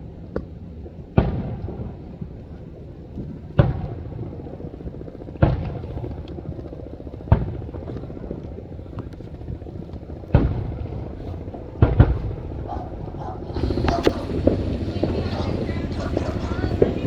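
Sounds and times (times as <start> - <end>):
fireworks booming: 0.8 - 2.4, 3.2 - 17.0
low rumble: 0.8 - 17.0.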